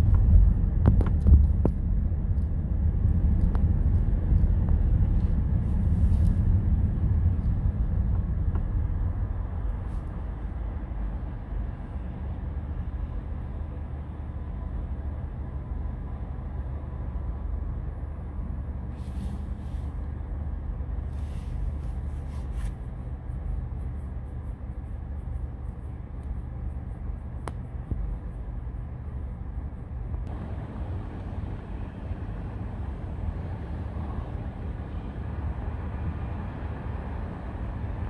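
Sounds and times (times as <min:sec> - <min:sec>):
city traffic rumble: 0:00.0 - 0:38.0.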